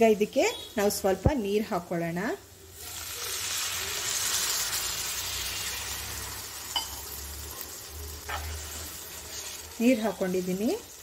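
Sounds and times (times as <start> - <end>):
water sizzling in hot oil: 2.2 - 11.0.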